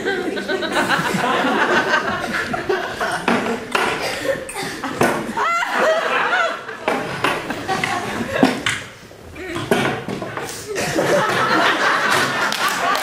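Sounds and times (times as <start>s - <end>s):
audience laughing: 0.0s - 3.7s, 4.3s - 8.7s, 10.7s - 13.0s.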